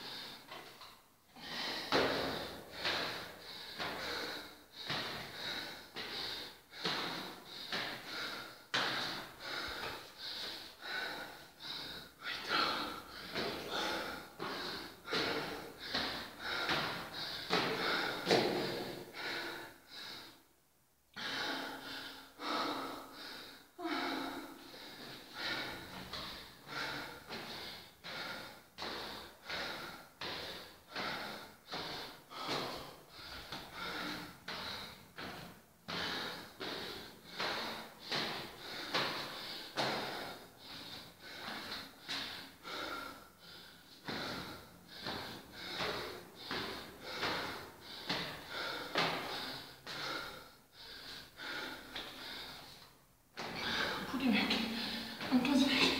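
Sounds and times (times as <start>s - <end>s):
woman breathing hard: 0.0s - 55.9s.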